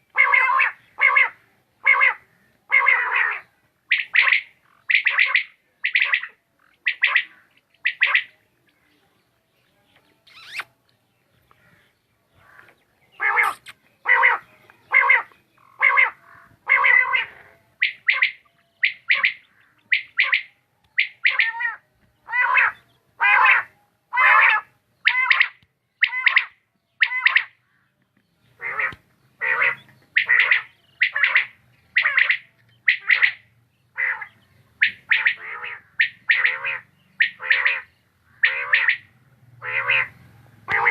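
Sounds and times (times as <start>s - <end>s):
quail calling: 0.0s - 8.4s, 10.3s - 10.7s, 11.6s - 27.6s, 28.5s - 40.9s.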